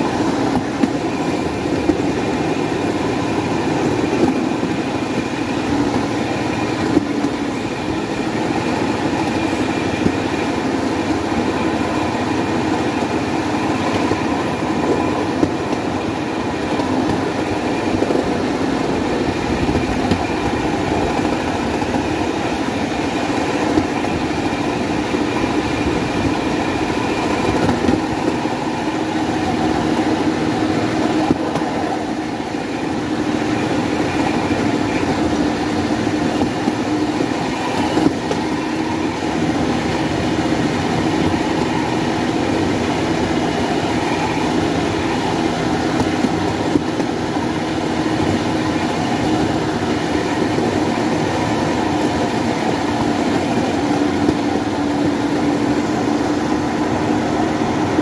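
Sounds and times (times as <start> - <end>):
trolley rolling on rails: 0.0 - 58.0.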